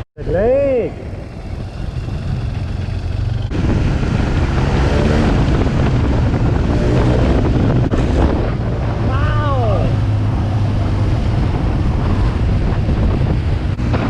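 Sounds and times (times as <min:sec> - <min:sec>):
wind rushing over microphone: 0:00.2 - 0:14.0
motorcycle engine running: 0:01.0 - 0:14.0.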